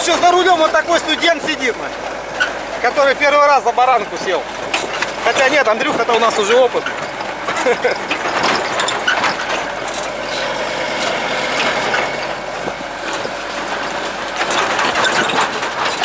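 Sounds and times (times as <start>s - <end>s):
truck body rattling: 0.0s - 16.0s
truck engine running: 0.0s - 16.0s.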